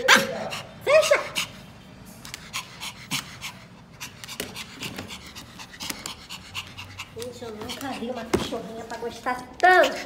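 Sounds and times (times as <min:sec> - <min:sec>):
dog panting: 0:00.1 - 0:10.0.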